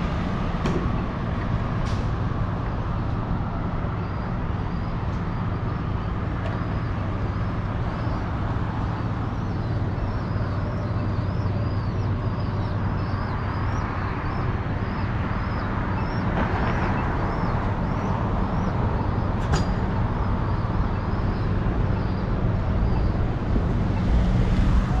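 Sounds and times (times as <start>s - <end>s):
traffic hum: 0.0s - 25.0s.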